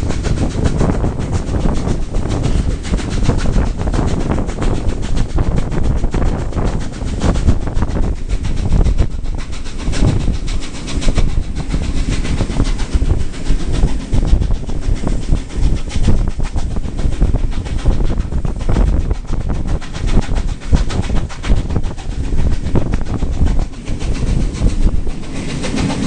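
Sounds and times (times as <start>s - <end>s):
train wheels clattering over rail joints: 0.0s - 26.0s.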